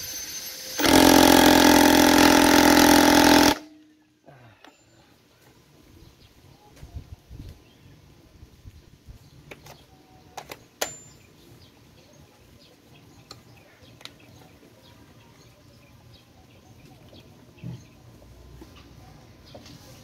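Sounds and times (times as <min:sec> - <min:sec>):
birds chirping faintly: 0:03.8 - 0:20.0.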